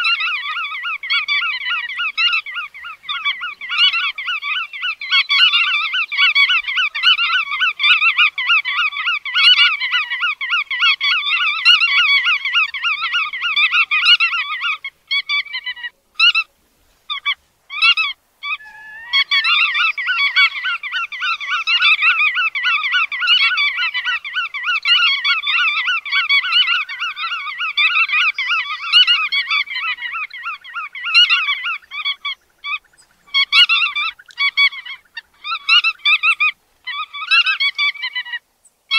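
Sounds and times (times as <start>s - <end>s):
wading bird calls: 0.0s - 38.9s.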